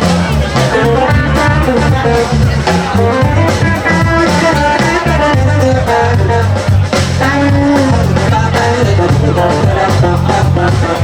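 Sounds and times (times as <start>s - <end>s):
live band playing: 0.0s - 11.0s
person singing: 0.0s - 11.0s.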